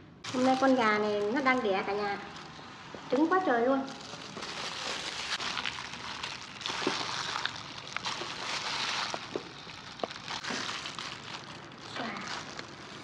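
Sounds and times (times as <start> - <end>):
plastic gloves crinkling: 0.2 - 13.0.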